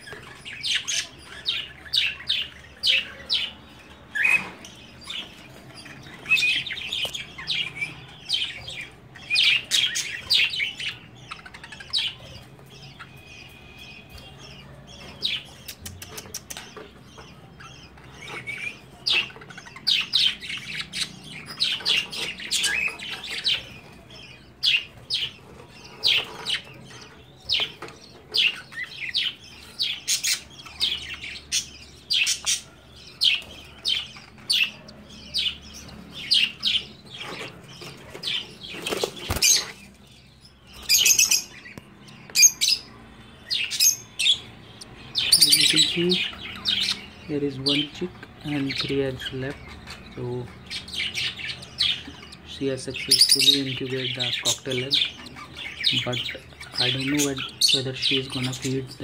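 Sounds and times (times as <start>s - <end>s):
chick peeping: 0.0s - 59.0s.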